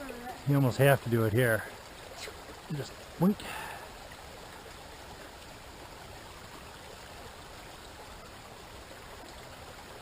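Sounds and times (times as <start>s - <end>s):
stream babbling over rocks: 0.0s - 10.0s.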